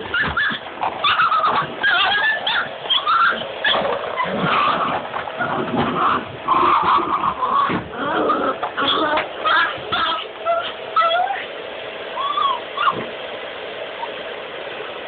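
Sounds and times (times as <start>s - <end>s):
dogs barking and growling: 0.0s - 13.3s.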